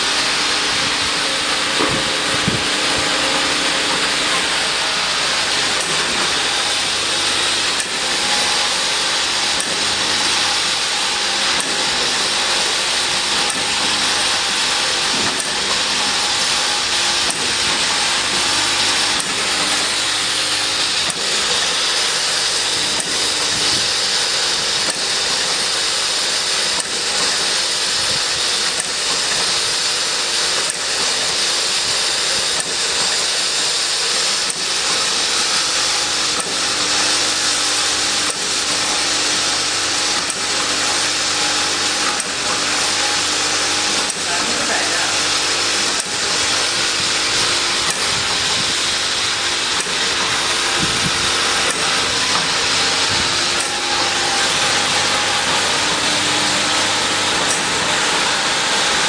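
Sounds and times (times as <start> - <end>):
bottling machine hiss and hum: 0.0 - 59.0
machine clicking: 0.1 - 59.0.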